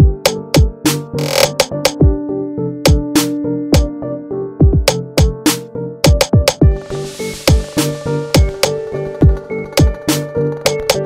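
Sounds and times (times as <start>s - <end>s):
electronic music with drum-machine beat: 0.0s - 2.2s, 2.8s - 3.9s, 4.6s - 11.0s.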